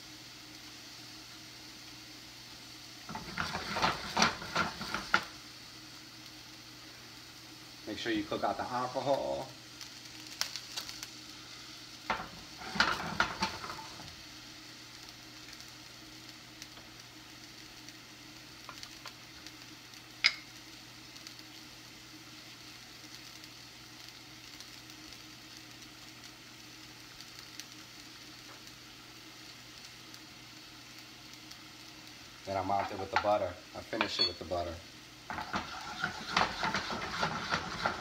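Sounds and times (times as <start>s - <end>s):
sauce simmering and sizzling: 0.0s - 38.0s.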